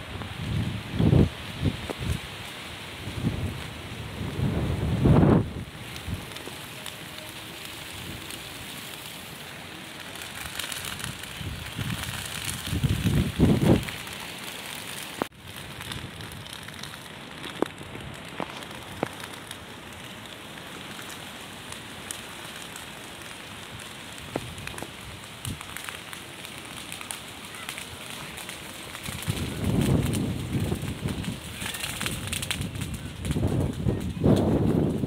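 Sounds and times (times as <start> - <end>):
fire crackling and popping: 0.0 - 35.0
fire hissing: 0.0 - 35.0.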